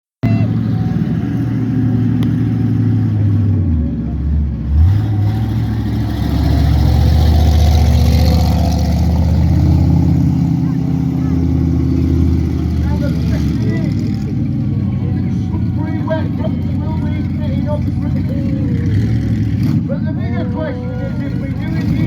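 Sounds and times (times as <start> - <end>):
monster truck engines revving: 0.2 - 22.0.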